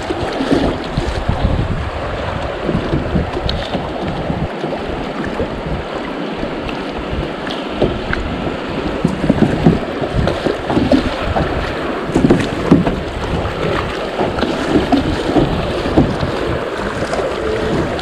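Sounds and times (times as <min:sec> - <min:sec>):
creek water rushing: 0:00.0 - 0:18.0
paddle strokes splashing: 0:00.0 - 0:18.0
wind rumbling on microphone: 0:00.0 - 0:18.0.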